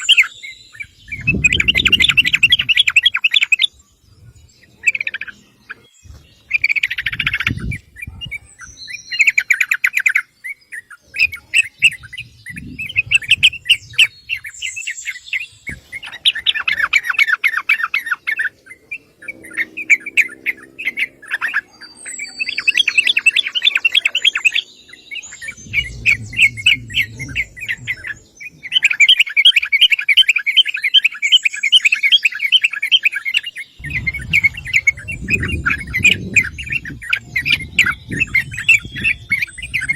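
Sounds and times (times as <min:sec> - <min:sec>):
bird chattering calls: 0:00.0 - 0:03.8, 0:04.6 - 0:39.9.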